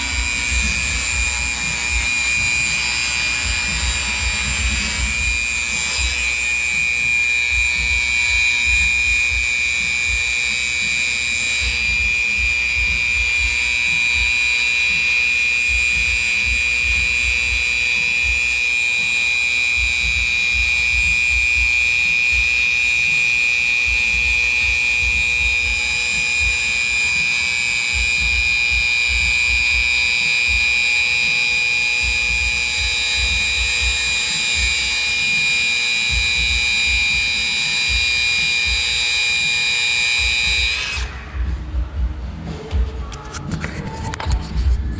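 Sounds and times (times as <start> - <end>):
grinder-sander motor whine: 0.0 - 42.0.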